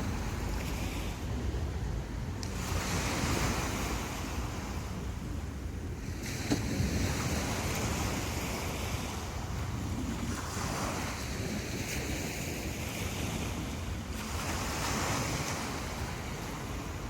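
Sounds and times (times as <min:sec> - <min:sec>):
ocean surf washing onto beach: 0:00.0 - 0:17.0
wind rumble on microphone: 0:00.0 - 0:17.0.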